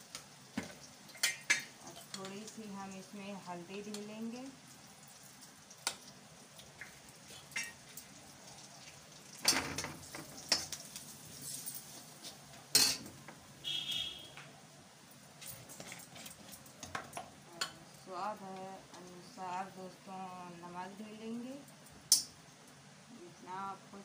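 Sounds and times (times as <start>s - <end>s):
frying in hot oil: 0.0s - 24.0s.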